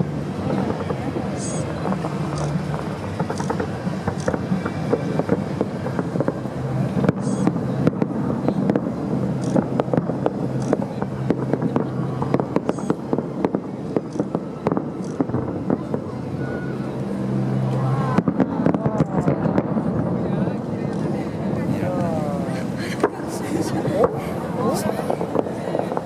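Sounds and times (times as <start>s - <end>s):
fireworks cracking and popping: 0.0s - 26.0s
steady low drone: 0.0s - 26.0s.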